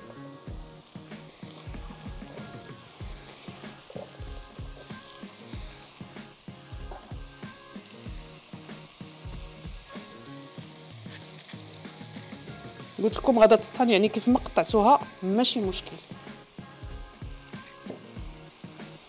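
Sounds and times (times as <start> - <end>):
background music with steady beat: 0.0 - 19.0
onion and potatoes sizzling in oil: 0.0 - 19.0.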